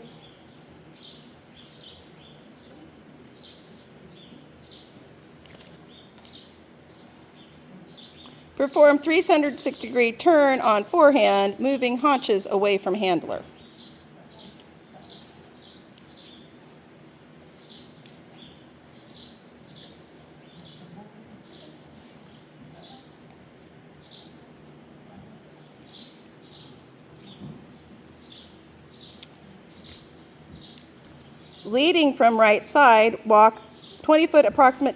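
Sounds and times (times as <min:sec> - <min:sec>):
faint background noise: 0:00.0 - 0:34.9.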